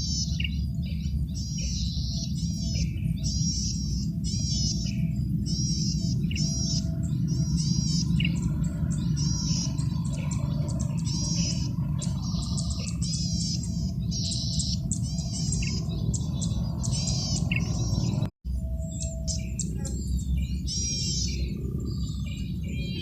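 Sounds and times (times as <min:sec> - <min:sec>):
bird singing buzzy trills: 0:00.0 - 0:23.0
low rumble: 0:00.0 - 0:23.0.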